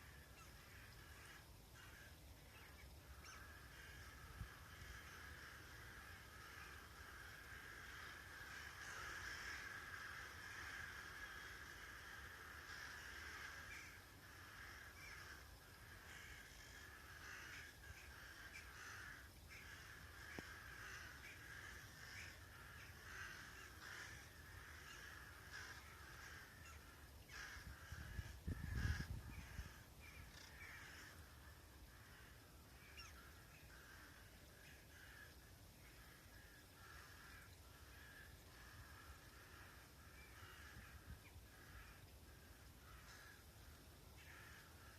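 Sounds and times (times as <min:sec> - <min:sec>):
flock of crows calling: 0:00.0 - 0:44.9.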